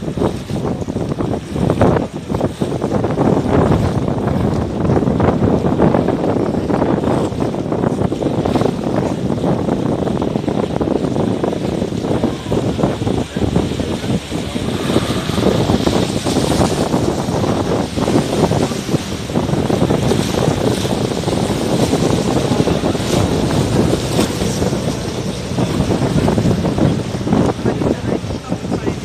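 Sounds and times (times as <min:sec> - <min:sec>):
motorboat engine rumble: 0:00.0 - 0:29.0
water washing along hull: 0:00.0 - 0:29.0
wind buffeting microphone: 0:00.0 - 0:29.0.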